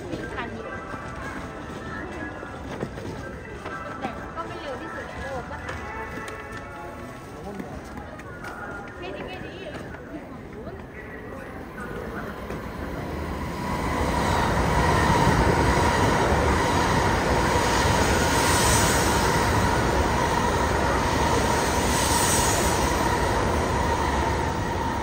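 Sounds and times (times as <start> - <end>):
high-speed train rushing past: 0.0 - 25.0.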